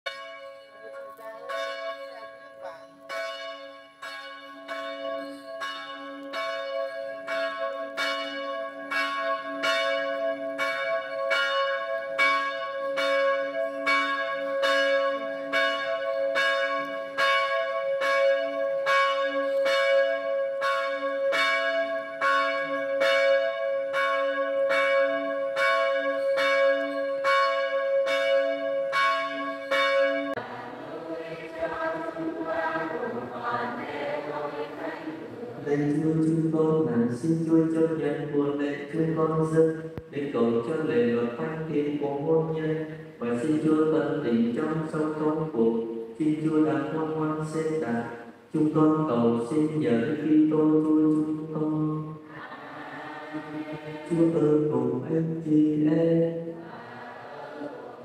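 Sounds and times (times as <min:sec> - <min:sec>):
church bell ringing: 0:00.1 - 0:52.3.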